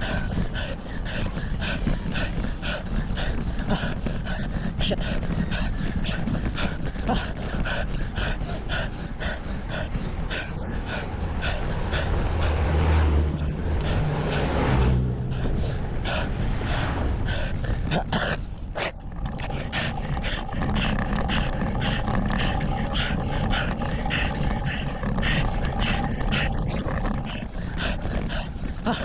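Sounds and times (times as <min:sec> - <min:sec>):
cyclist panting: 0:00.0 - 0:29.0
wind and road noise: 0:00.0 - 0:29.0.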